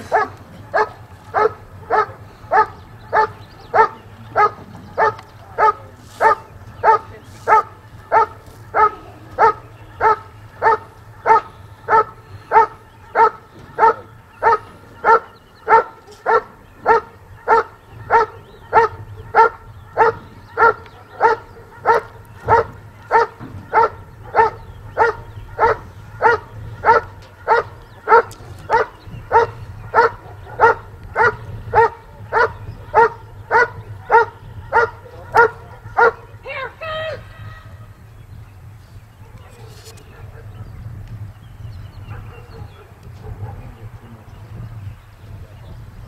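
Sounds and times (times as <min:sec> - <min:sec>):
dog barking: 0:00.0 - 0:36.3, 0:39.2 - 0:40.7, 0:42.0 - 0:43.8.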